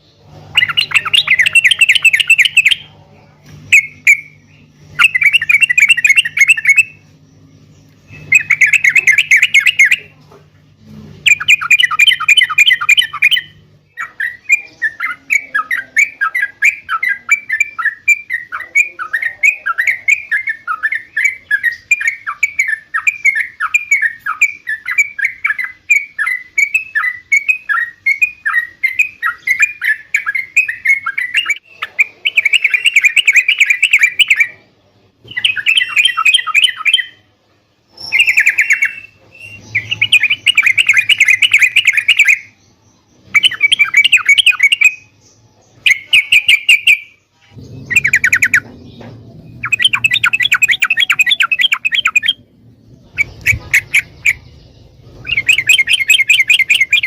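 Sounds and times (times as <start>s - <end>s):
steady low hum: 0.0s - 46.4s, 47.0s - 57.0s
bird singing: 0.0s - 57.0s.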